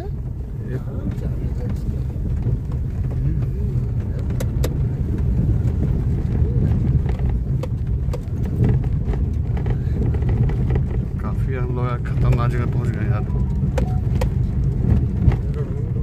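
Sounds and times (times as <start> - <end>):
car knocking and rattling: 0.0 - 16.0
engine and tyres rumbling: 0.0 - 16.0.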